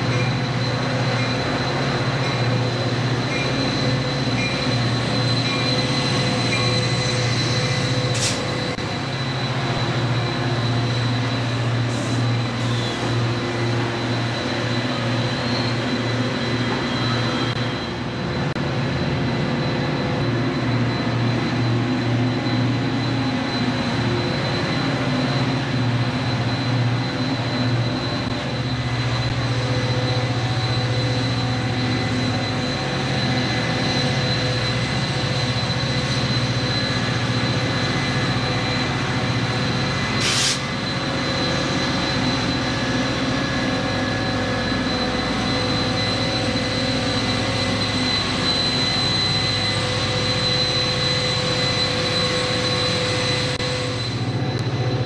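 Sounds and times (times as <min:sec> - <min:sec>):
diesel locomotive running: 0:00.0 - 0:55.0
high squeal: 0:00.0 - 0:55.0.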